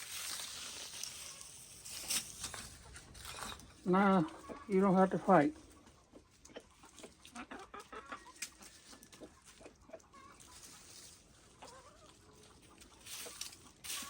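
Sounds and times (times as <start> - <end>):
chickens clucking: 0.2 - 14.0.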